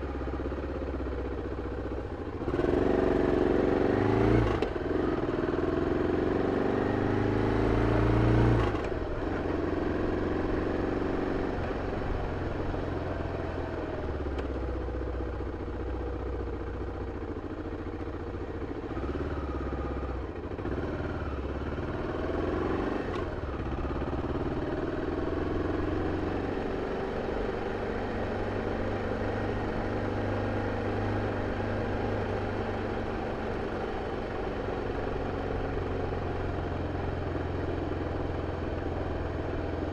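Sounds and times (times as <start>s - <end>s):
motorcycle engine revving: 2.2s - 14.6s, 17.4s - 39.9s.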